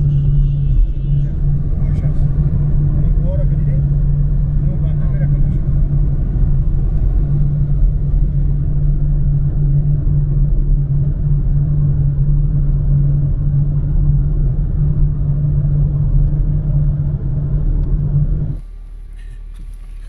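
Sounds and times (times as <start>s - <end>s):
car engine drone: 0.0s - 20.0s
road rumble: 0.0s - 20.0s.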